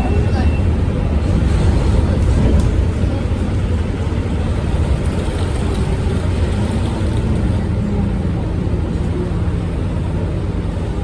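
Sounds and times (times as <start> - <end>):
bus diesel engine rumbling: 0.0 - 11.0.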